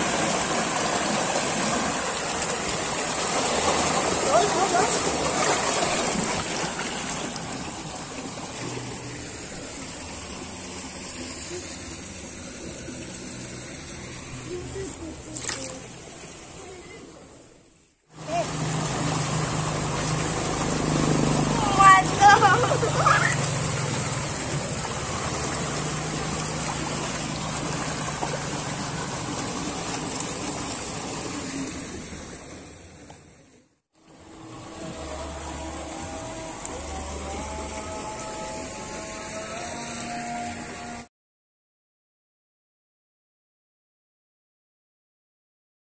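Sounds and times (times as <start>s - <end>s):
water rushing in a channel: 0.0s - 41.1s.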